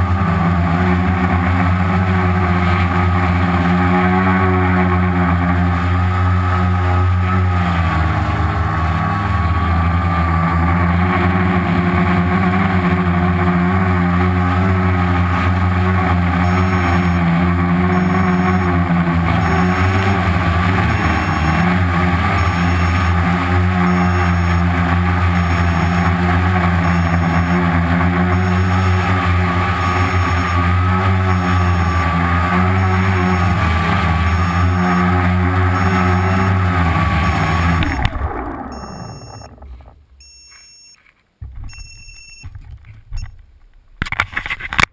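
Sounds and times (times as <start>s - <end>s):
quadcopter motors buzzing: 0.0s - 40.9s.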